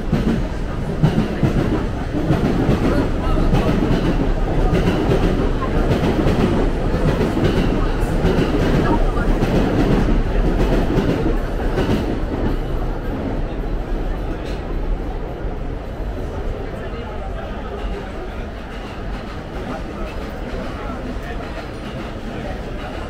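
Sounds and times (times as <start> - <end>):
train wheels rolling on track: 0.0 - 23.0.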